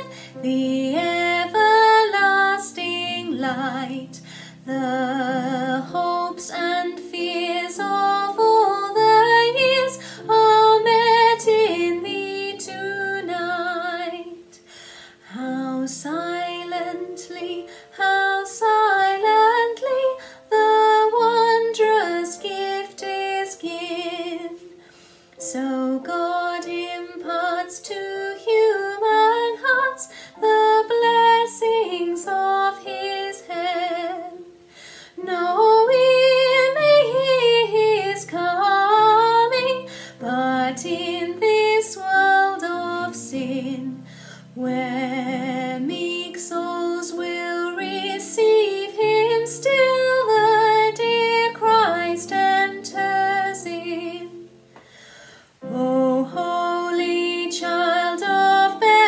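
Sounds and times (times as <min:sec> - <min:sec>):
woman singing carol: 0:00.0 - 0:14.6, 0:15.2 - 0:24.8, 0:25.4 - 0:34.6, 0:35.2 - 0:54.5, 0:55.6 - 0:59.0.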